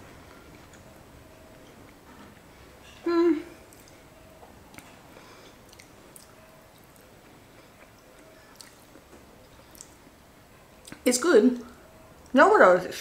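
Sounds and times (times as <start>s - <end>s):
person chewing food quietly: 0.0s - 12.3s.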